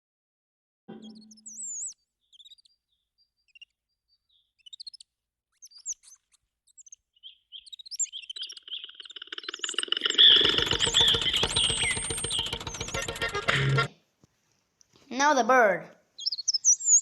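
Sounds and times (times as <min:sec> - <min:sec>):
sparrow chirping: 0:00.9 - 0:13.9, 0:16.2 - 0:17.0.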